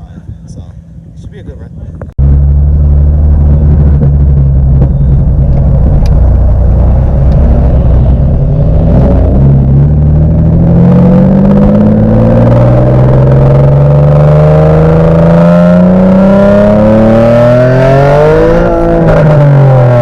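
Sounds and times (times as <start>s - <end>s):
car engine accelerating hard: 2.2s - 20.0s.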